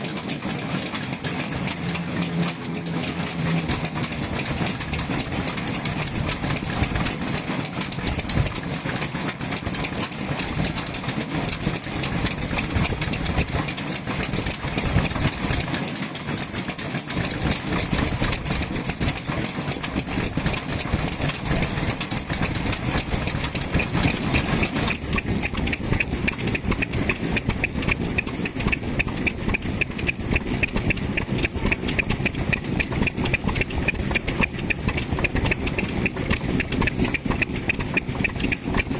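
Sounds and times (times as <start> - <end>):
stationary engines chugging: 0.0 - 38.9.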